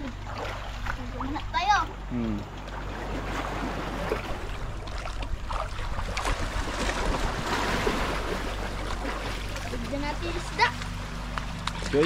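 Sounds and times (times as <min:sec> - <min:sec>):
sea water splashing: 0:00.0 - 0:12.0
steady low hum: 0:00.0 - 0:12.0.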